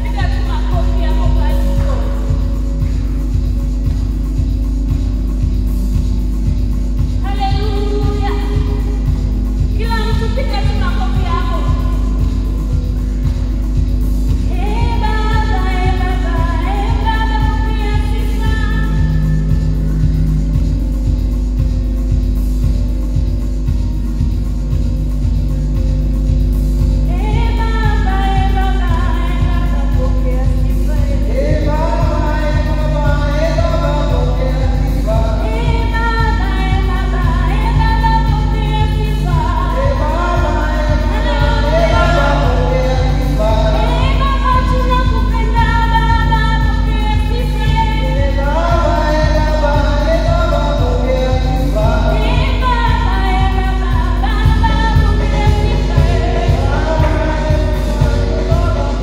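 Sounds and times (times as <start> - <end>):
band with steady beat: 0.0 - 59.0
voices singing worship song: 0.0 - 59.0.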